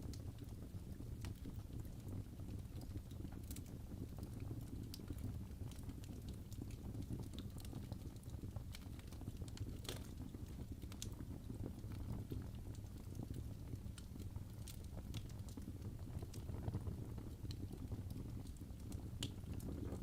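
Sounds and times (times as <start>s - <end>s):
fire popping and snapping: 0.0s - 20.0s
low rumble of burning: 0.0s - 20.0s.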